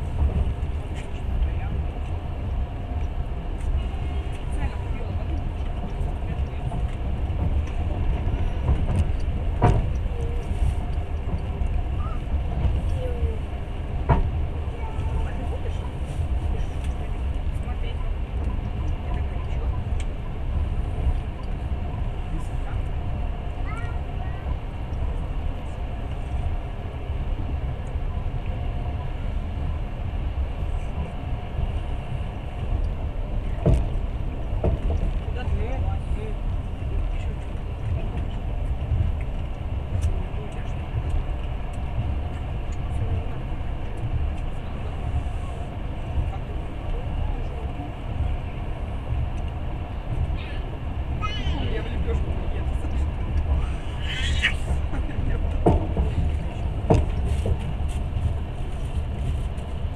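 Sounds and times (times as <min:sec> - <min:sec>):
train rumble from inside carriage: 0:00.0 - 0:59.9.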